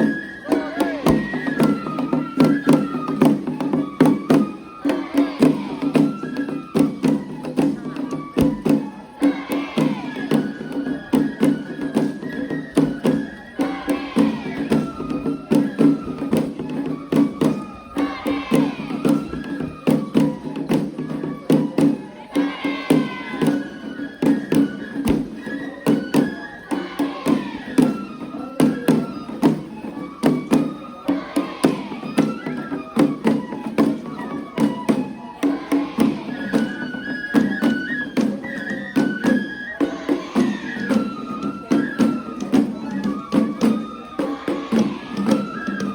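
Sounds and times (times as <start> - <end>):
high flute melody: 0.0 - 45.9
rapid percussion strikes: 0.0 - 45.9.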